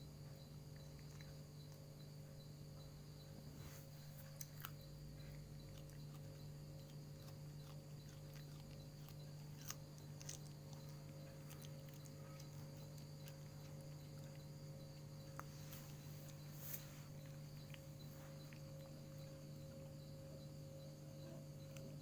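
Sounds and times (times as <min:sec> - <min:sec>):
cat chewing crunchy beans: 0:00.0 - 0:20.3, 0:21.4 - 0:22.0.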